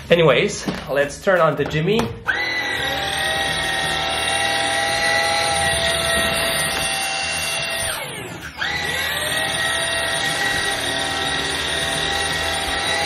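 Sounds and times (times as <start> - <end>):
vacuum cleaner whine: 2.3 - 13.0.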